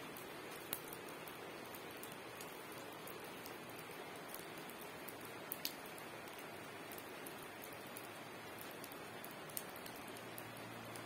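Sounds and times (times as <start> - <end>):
heavy rain hissing: 0.0 - 11.0
raindrops ticking on surfaces: 0.0 - 11.0.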